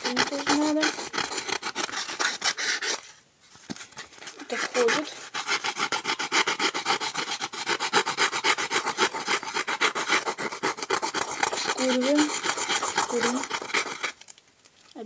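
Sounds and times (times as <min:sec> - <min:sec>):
sandpaper rubbing on foam: 0:00.0 - 0:03.1, 0:04.0 - 0:14.2.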